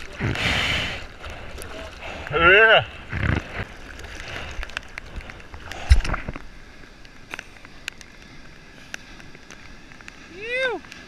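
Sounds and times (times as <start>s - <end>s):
raindrops ticking on camera housing: 0.0s - 11.0s
sea water sloshing and splashing: 0.0s - 11.0s.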